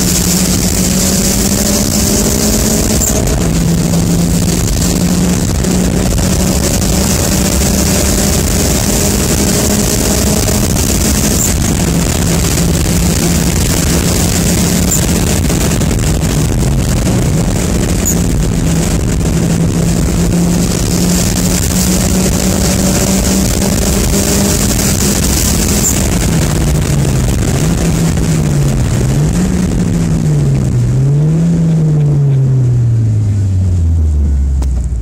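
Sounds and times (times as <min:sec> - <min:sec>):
car engine at high revs: 0:00.0 - 0:35.0
road and wind noise: 0:00.0 - 0:35.0.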